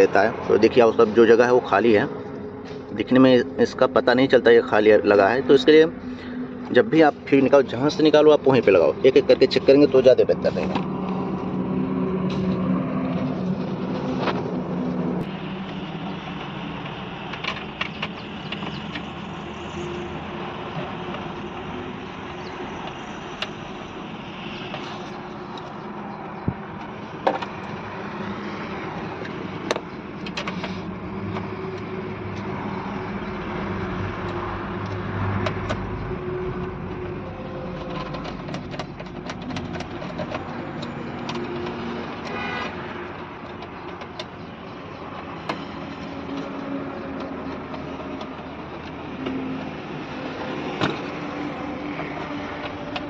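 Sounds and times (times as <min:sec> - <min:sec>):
hum of vehicles: 0:00.0 - 0:53.0.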